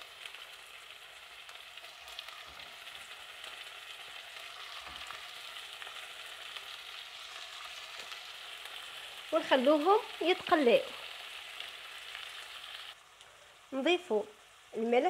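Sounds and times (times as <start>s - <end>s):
oil sizzling in a pot: 0.0s - 15.0s.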